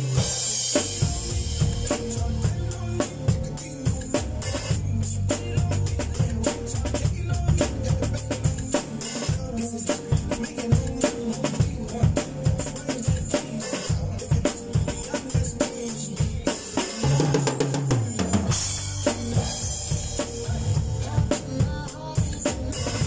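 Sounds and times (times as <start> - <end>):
drum kit groove: 0.0 - 23.0
pop backing track: 0.0 - 23.0.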